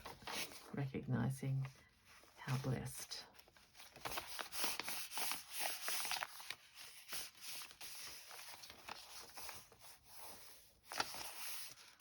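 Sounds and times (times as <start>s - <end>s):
paper pages rustling: 0.0s - 0.8s, 1.5s - 12.0s.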